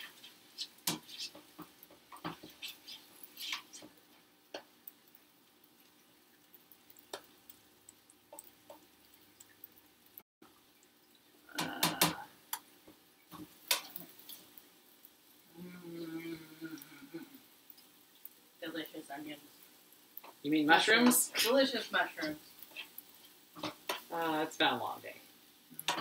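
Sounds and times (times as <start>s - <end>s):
spatula stirring in frying pan: 0.0s - 15.4s, 16.8s - 26.0s.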